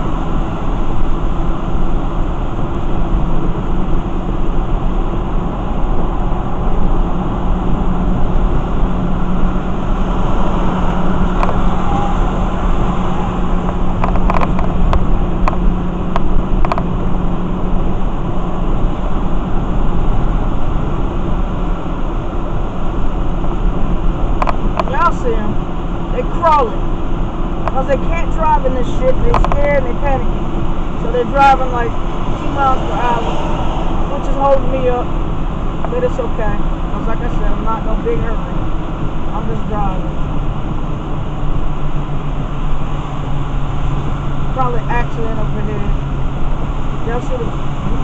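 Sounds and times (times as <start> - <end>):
low engine hum: 0.0 - 48.0.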